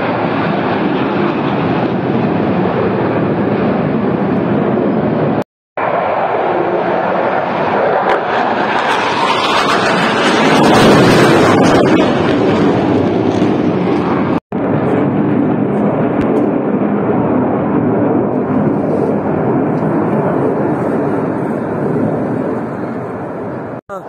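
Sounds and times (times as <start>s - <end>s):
jet flying past overhead: 0.0s - 23.8s.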